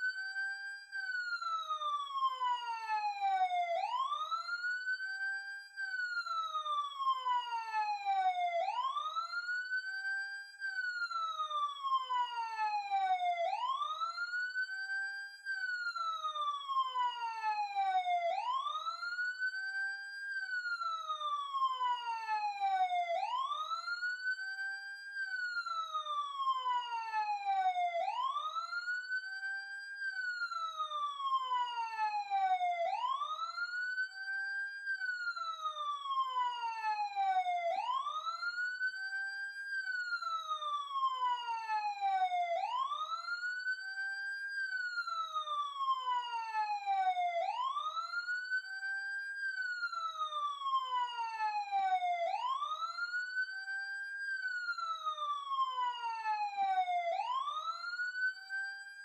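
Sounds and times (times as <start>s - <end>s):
police siren wailing: 0.0s - 59.0s.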